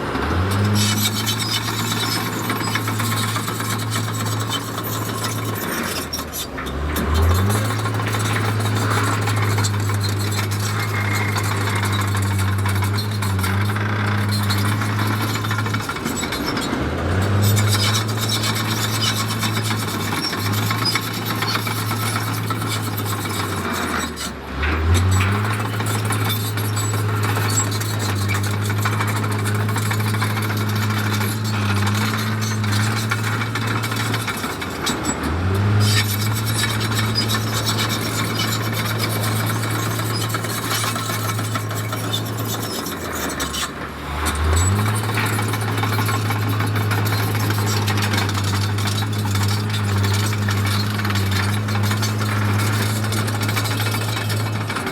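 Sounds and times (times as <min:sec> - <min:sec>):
diesel engine running under load: 0:00.0 - 0:54.9
scraping and grinding: 0:00.0 - 0:54.9.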